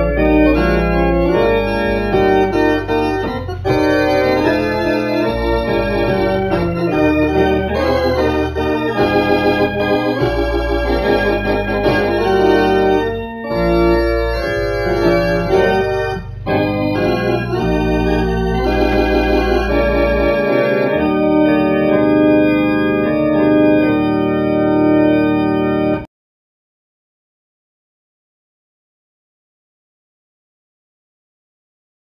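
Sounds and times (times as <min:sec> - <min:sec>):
organ playing held chords: 0:00.0 - 0:26.1.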